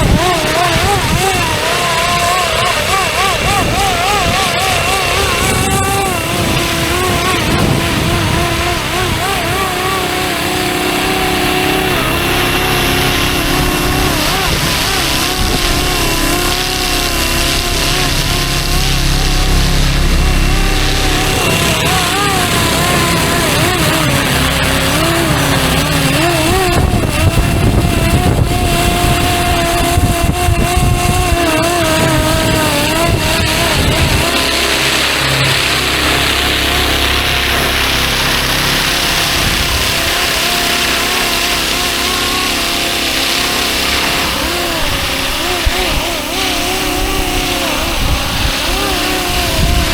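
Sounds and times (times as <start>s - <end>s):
low gusty rumble: 0.0s - 49.9s
rc helicopter motor whine: 0.0s - 49.9s.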